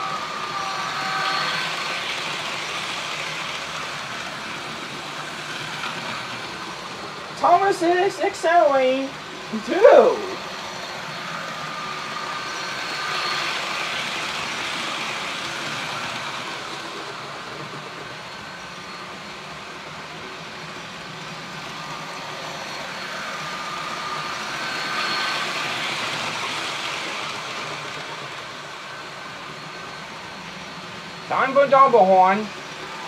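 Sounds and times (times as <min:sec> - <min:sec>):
model train rolling rattle: 0:00.0 - 0:09.6, 0:10.4 - 0:33.0
faint motor whine: 0:00.0 - 0:33.0.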